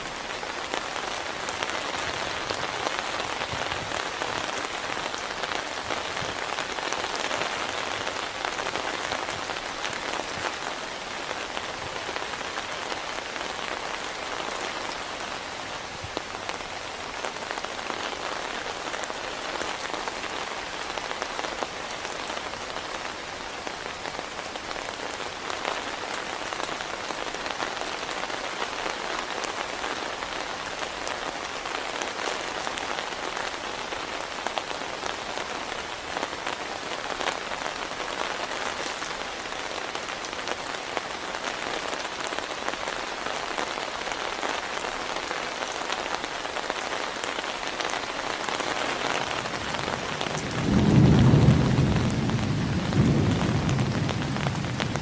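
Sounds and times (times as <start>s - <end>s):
heavy rain hiss: 0.0s - 55.0s
raindrops ticking on surface: 0.0s - 55.0s.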